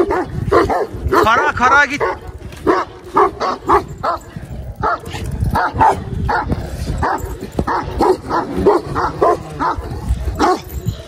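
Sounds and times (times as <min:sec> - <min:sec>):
large dogs barking: 0:00.0 - 0:11.0.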